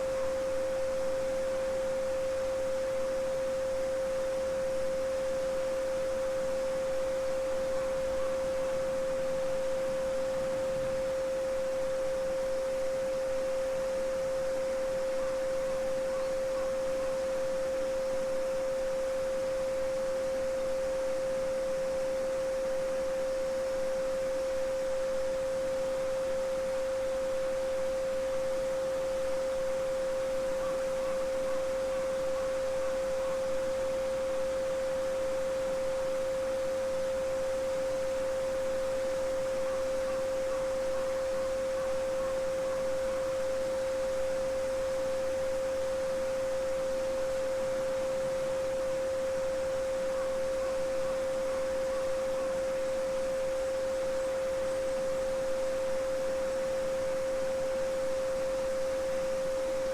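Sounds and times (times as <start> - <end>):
steady sine tone: 0.0 - 59.9.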